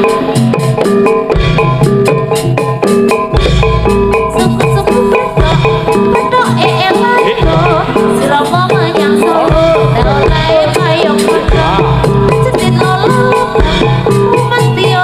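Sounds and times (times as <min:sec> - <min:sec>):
hand drums: 0:00.0 - 0:15.0
metallophones playing fast melody: 0:00.0 - 0:15.0.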